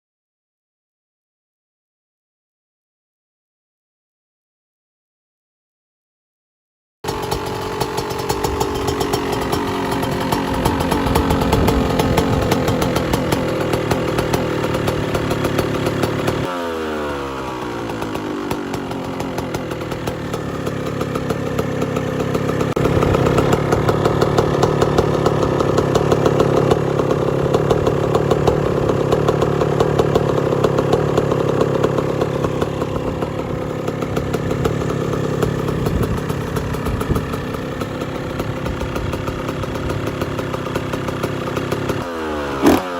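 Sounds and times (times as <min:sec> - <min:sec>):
two-stroke motorcycle engine revving: 0:07.0 - 0:42.9.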